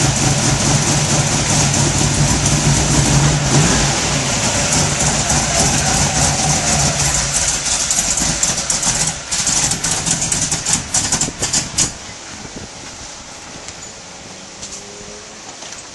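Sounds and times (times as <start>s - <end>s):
car engine idling and stalling: 0.0s - 14.0s.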